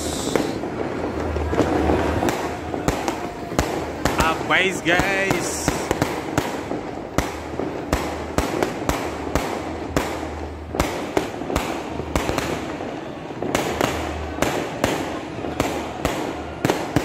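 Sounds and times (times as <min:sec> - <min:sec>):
fireworks bangs: 0:00.0 - 0:17.0
fireworks crackle: 0:00.0 - 0:17.0.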